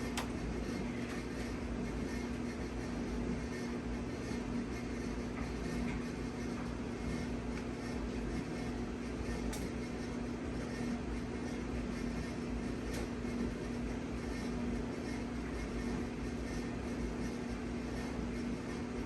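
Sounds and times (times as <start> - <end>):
ceiling fan motor hum: 0.0 - 19.0.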